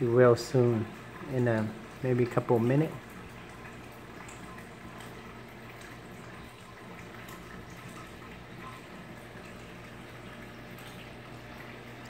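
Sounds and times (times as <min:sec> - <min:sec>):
faint water drips: 0:00.0 - 0:12.0
low steady hum: 0:00.0 - 0:12.0
water trickling and bubbling: 0:00.0 - 0:12.0.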